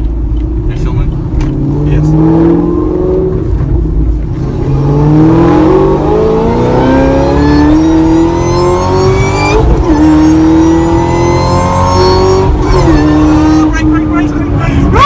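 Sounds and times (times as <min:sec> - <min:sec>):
car engine accelerating: 0:00.0 - 0:15.0
supercharger whine: 0:00.0 - 0:15.0.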